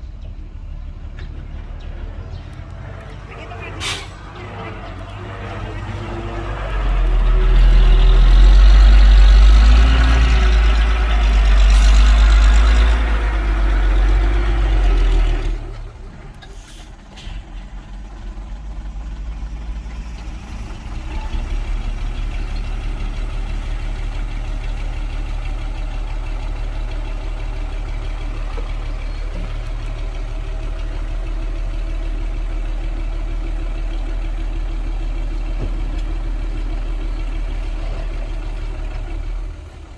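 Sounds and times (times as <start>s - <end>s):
heavy diesel engine: 0.0s - 39.9s.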